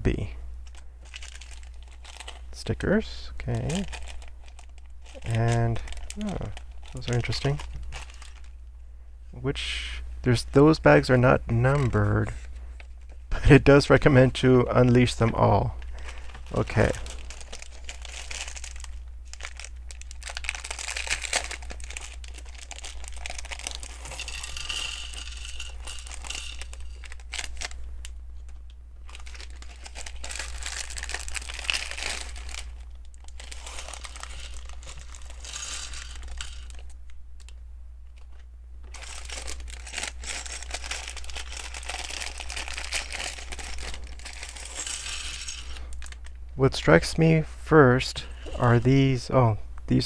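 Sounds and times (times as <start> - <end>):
steady low hum: 0.0 - 50.0
plastic bags crinkling and tearing: 0.6 - 8.6, 11.6 - 47.0.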